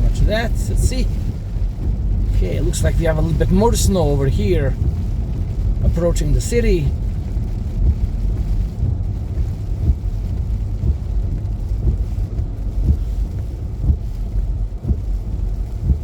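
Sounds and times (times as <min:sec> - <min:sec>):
car driving on snowy road: 0:00.0 - 0:16.0.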